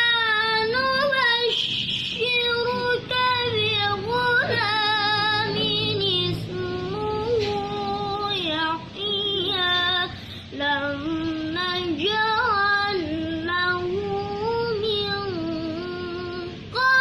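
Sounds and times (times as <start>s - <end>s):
boy reciting melodically: 0.0s - 17.0s.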